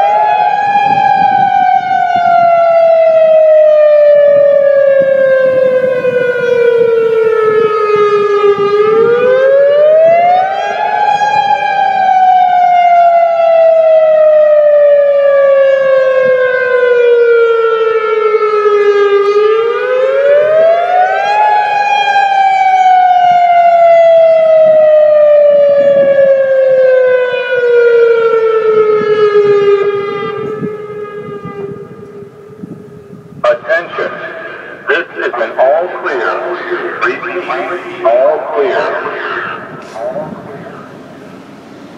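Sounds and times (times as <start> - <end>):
emergency warning siren wailing: 0.0 - 41.9.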